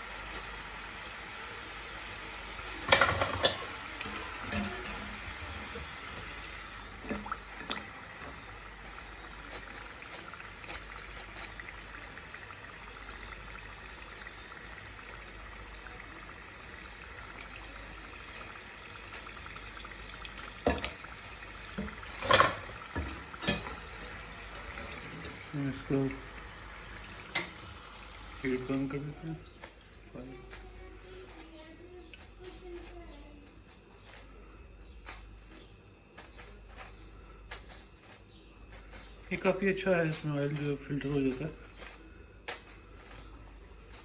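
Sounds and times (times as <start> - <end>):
food deep-frying in oil: 0.0 - 44.0.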